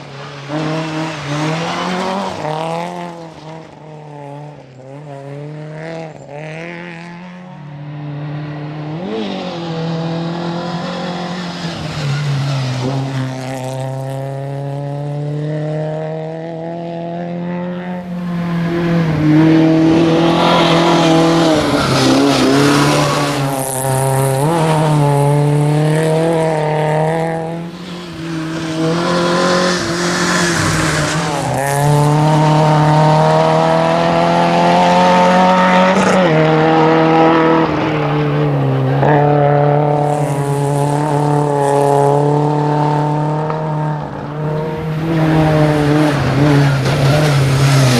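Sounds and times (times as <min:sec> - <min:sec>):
car engine revving through gears: 0:00.0 - 0:47.9.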